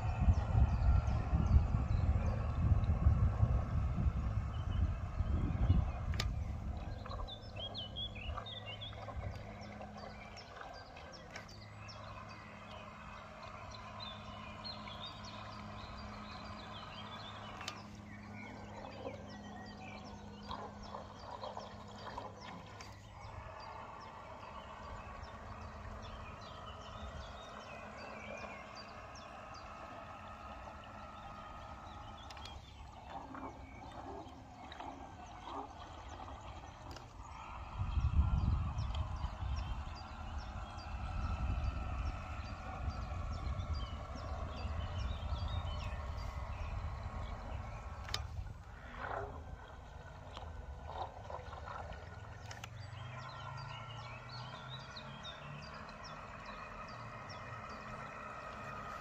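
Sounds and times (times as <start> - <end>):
birds chirping and singing: 0.0 - 59.0
faint steady low hum: 0.0 - 59.0.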